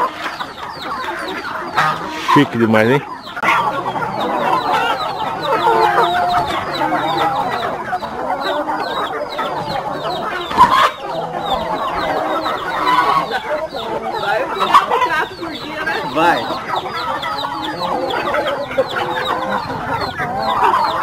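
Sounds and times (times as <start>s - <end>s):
chickens clucking: 0.0s - 21.0s
loud chicken call: 0.0s - 21.0s.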